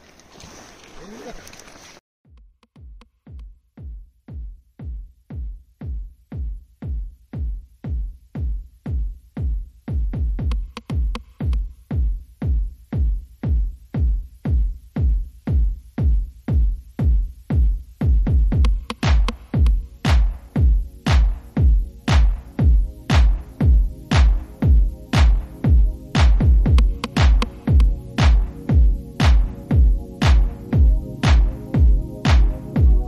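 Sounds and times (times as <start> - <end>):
electronic kick drum: 2.2 - 33.0
hi-hat ticks: 2.3 - 4.4, 5.3 - 33.0.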